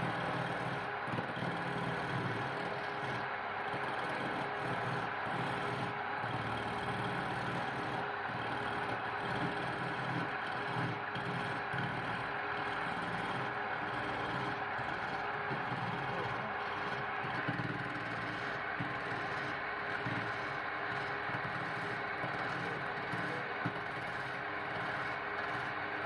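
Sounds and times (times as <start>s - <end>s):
wood lathe running: 0.0s - 26.0s.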